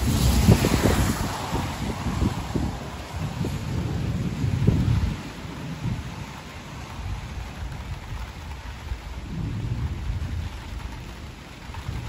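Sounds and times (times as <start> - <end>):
rain falling: 0.0 - 12.0
thunder rumbling: 0.0 - 12.0.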